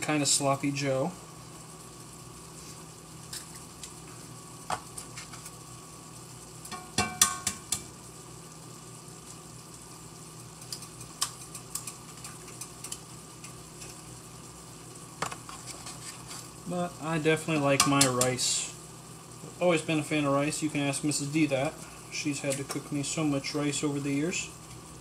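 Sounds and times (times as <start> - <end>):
food sizzling in a skillet: 0.0 - 25.0.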